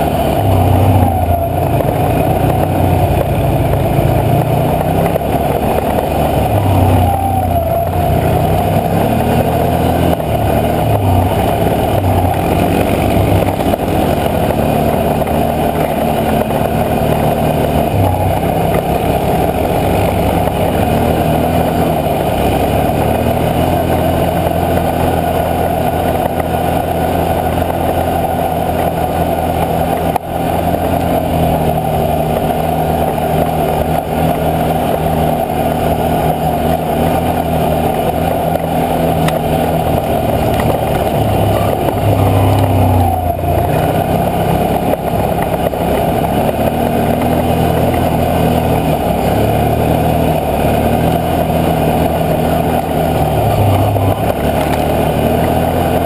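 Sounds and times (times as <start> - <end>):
atv engine running: 0.0 - 56.0
riding noise: 0.0 - 56.0.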